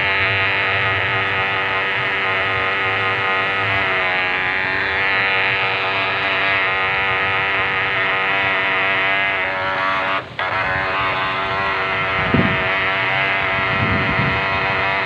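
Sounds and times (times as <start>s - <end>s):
model boat motor whine: 0.0s - 15.0s
water splashing along hull: 0.0s - 15.0s.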